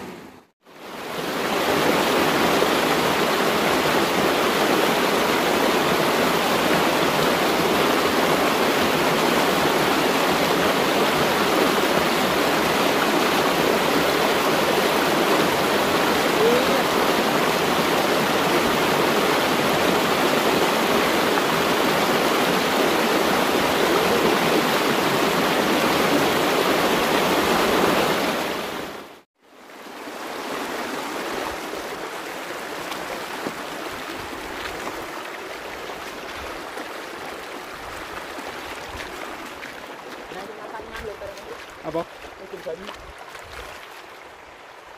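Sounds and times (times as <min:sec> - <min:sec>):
water rushing in stream: 0:00.0 - 0:44.9
shallow water running: 0:00.9 - 0:29.0, 0:29.7 - 0:44.9.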